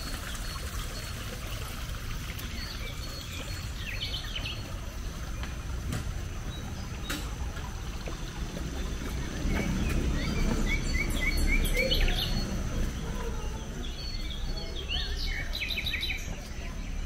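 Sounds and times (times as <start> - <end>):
birds chirping: 0.0 - 17.0
low outdoor rumble: 1.0 - 17.0.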